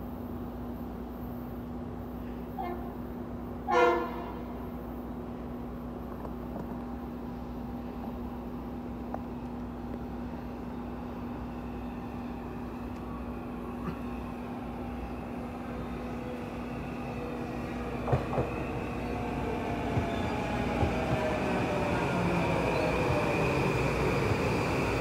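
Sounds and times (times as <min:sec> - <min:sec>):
electric train approaching: 0:00.0 - 0:25.0.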